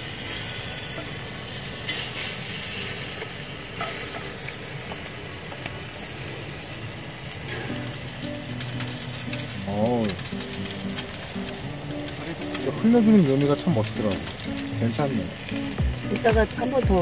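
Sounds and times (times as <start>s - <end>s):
ribs sizzling on a grill: 0.0s - 17.0s.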